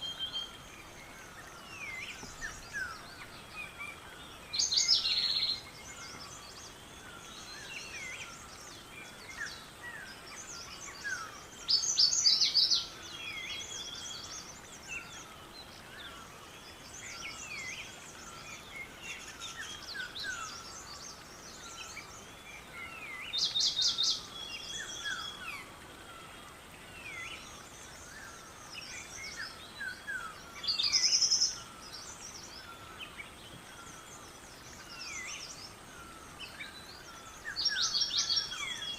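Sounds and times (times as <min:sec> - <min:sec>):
loud trilled bird song: 0:00.0 - 0:38.9
wild birds chirping and whistling: 0:00.0 - 0:38.9.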